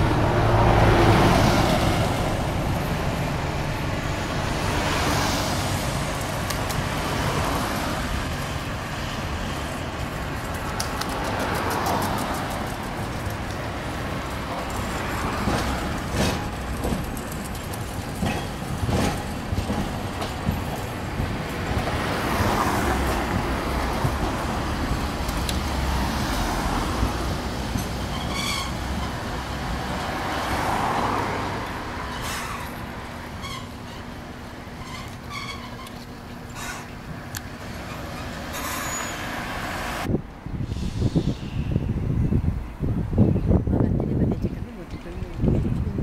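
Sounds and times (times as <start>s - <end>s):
cars passing with tyre noise: 0.0s - 46.0s
tram rolling past: 0.0s - 46.0s.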